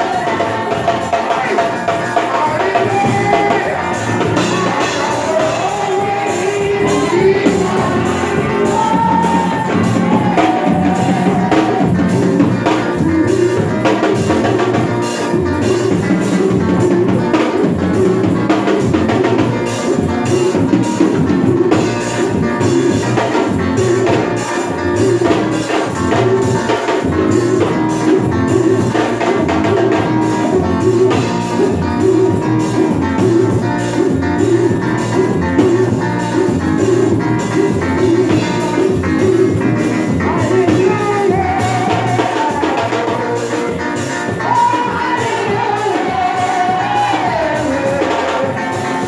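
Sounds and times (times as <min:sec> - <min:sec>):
drum kit driving beat: 0:00.0 - 0:49.0
keyboard-like notes: 0:00.0 - 0:49.0
sustained bass: 0:02.4 - 0:48.0.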